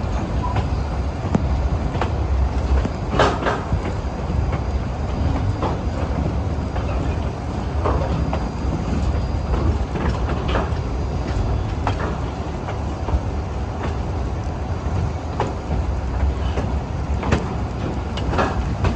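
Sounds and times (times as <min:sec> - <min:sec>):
train rumbling on track: 0:00.0 - 0:18.9
wheels clacking and knocking: 0:01.9 - 0:14.1, 0:15.4 - 0:18.9.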